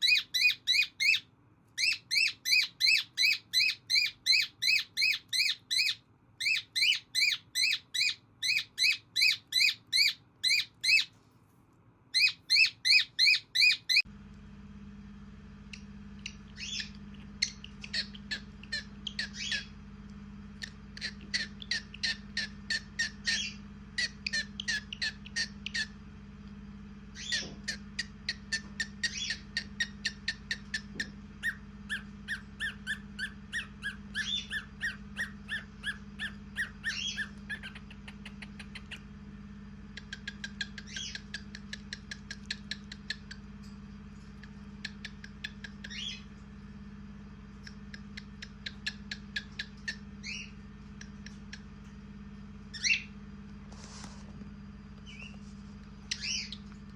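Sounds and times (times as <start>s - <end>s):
cockatiels chirping: 0.0s - 11.2s, 12.1s - 14.0s, 15.7s - 19.8s, 20.6s - 26.0s, 27.1s - 39.1s, 39.9s - 43.5s, 44.2s - 46.4s, 47.6s - 51.9s, 52.7s - 54.3s, 55.0s - 56.9s
steady low hum: 0.0s - 56.9s.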